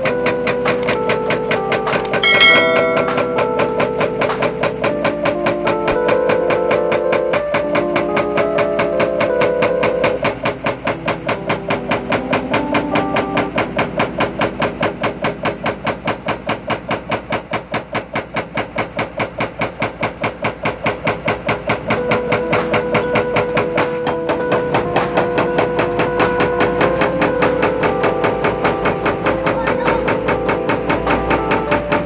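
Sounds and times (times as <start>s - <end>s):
powered breaker hammering: 0.0s - 32.0s.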